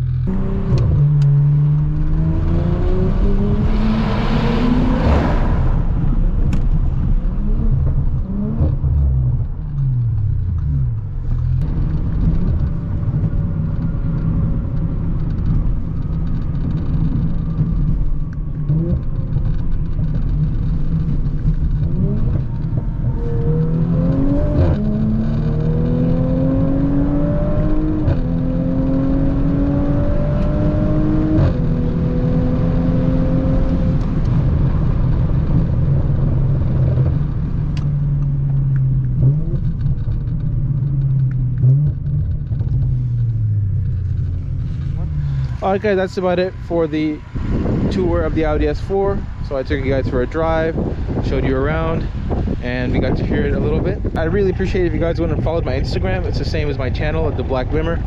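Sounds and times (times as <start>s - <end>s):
car engine accelerating: 0.0s - 58.0s
wind noise on microphone: 0.0s - 58.0s.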